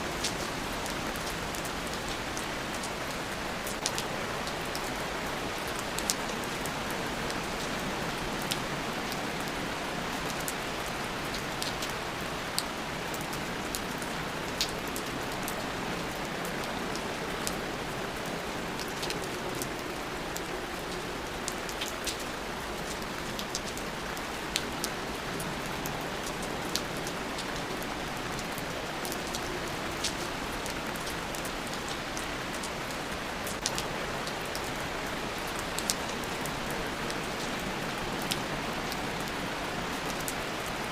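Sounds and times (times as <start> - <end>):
steady rain: 0.0 - 40.9
raindrops ticking on a surface: 0.1 - 40.9.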